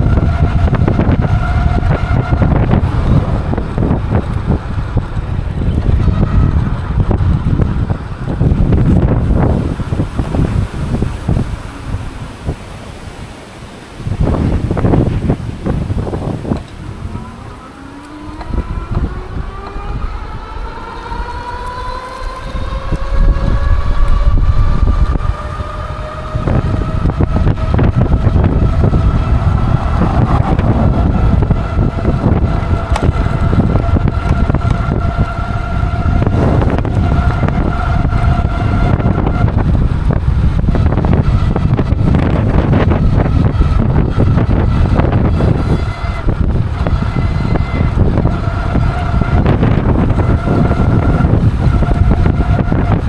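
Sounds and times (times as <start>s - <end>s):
electric bike motor whining: 0.0s - 53.0s
wind rumble on microphone: 0.0s - 53.0s.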